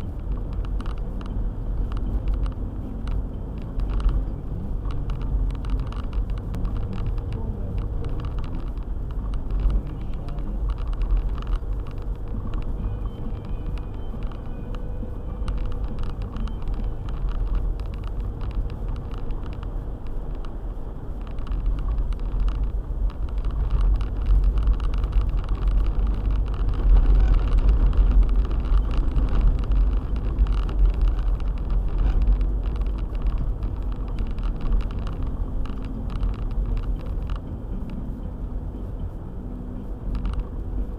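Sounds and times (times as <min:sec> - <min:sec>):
car engine and road rumble: 0:00.0 - 0:40.9
small ticks and knocks: 0:00.3 - 0:20.6, 0:21.2 - 0:38.0, 0:40.0 - 0:40.6.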